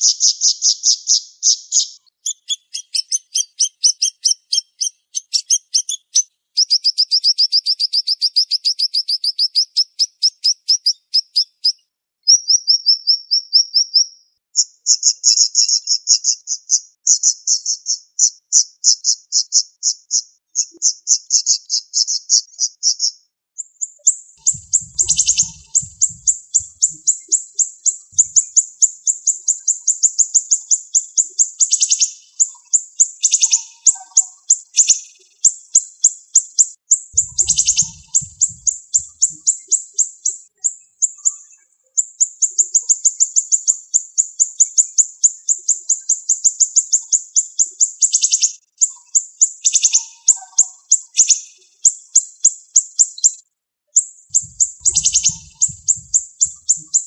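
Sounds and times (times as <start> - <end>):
songbird chirping: 0.0 - 57.0.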